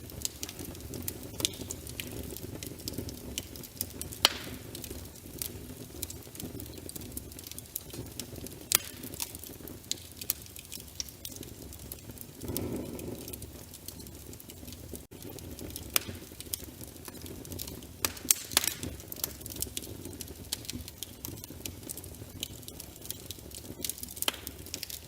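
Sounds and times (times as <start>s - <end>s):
fire rumbling and crackling: 0.0s - 25.0s
loud fire pops: 0.0s - 25.0s.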